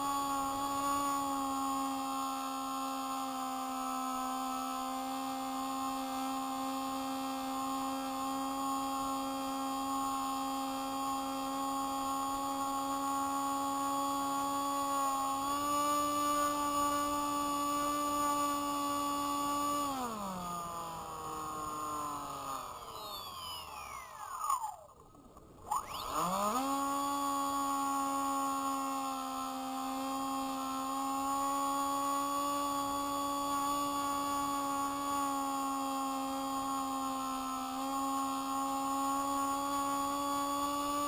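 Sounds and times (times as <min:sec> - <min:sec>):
electric motor and propeller whine: 0:00.0 - 0:41.0.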